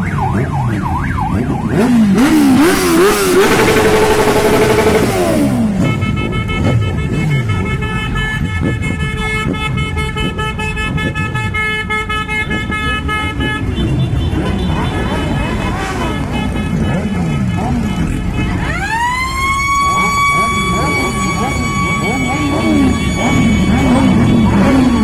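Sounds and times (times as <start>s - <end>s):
vehicle siren wailing: 0.0s - 11.2s, 12.4s - 25.0s
engines rumbling: 0.0s - 25.0s
multi-tone horn blast: 1.7s - 25.0s.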